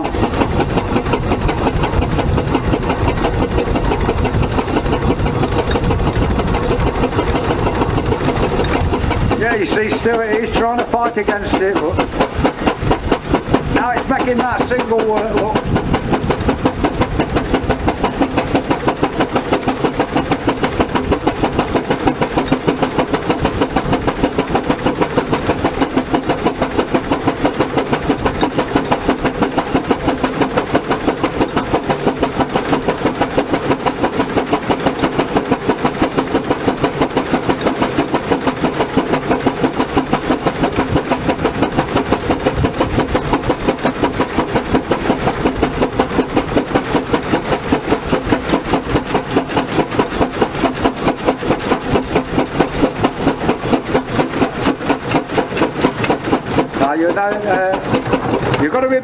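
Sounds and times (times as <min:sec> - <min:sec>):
steam engine exhaust barking: 0:00.0 - 0:59.0.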